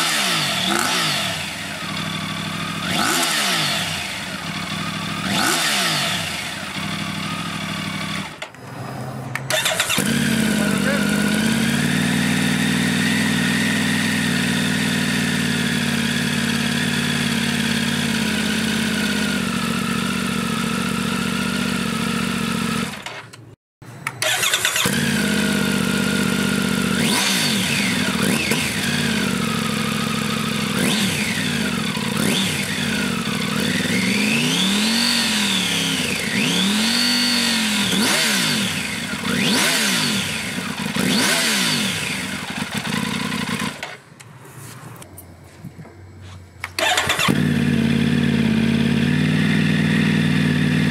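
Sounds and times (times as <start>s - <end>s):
motorcycle engine revving: 0.0s - 23.4s, 24.1s - 44.0s, 46.6s - 50.9s
motorcycle engine idling: 0.3s - 2.9s, 3.7s - 23.0s, 24.2s - 36.6s, 38.7s - 44.1s, 46.6s - 50.9s.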